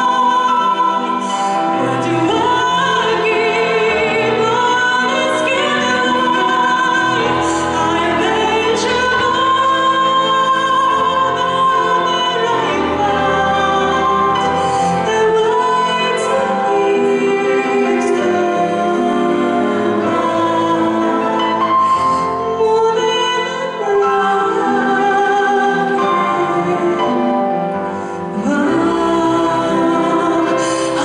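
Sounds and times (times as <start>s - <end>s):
woman singing a ballad: 0.0s - 21.7s, 22.3s - 27.4s, 28.2s - 31.0s
instrumental accompaniment: 0.0s - 31.0s.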